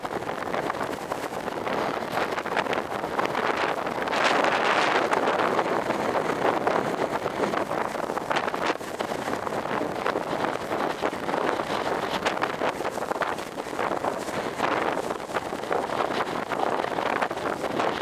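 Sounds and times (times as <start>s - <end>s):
wind gusting through trees: 0.0s - 18.0s.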